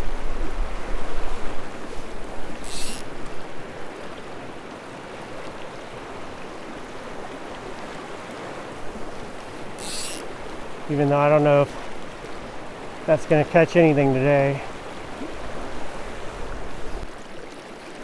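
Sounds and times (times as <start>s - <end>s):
river current rushing: 0.0s - 17.3s.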